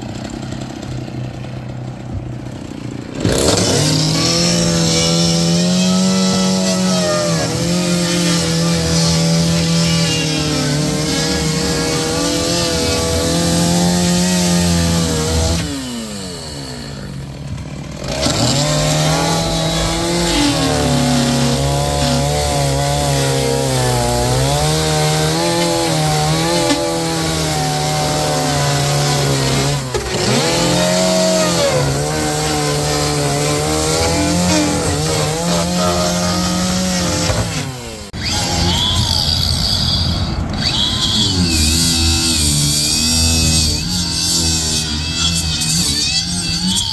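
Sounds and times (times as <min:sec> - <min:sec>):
chainsaw cutting: 0:00.0 - 0:46.9.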